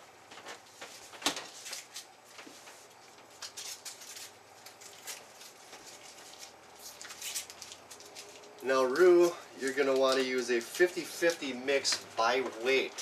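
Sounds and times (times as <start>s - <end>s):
wrapper rustling: 0.4s - 10.9s.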